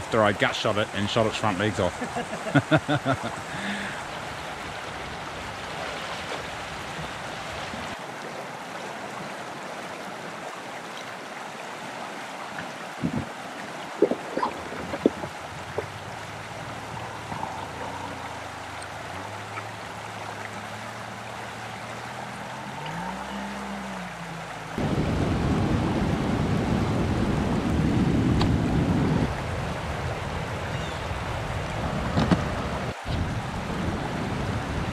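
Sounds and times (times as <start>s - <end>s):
stream flowing: 0.0s - 34.9s.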